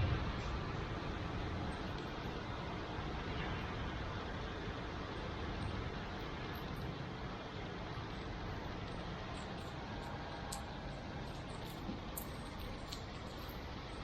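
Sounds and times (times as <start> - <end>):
heavy rain: 0.0 - 14.0
low hum of city traffic: 0.0 - 14.0.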